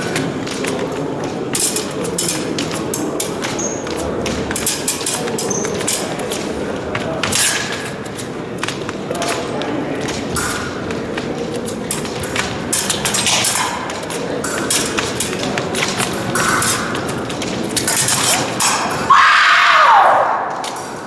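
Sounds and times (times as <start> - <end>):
hall noise: 0.0 - 21.0.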